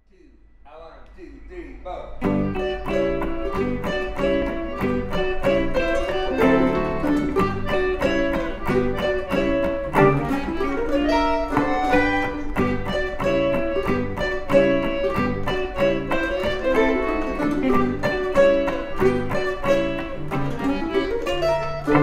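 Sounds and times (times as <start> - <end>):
bowed string melody: 2.2 - 22.0
plucked string notes: 2.2 - 22.0.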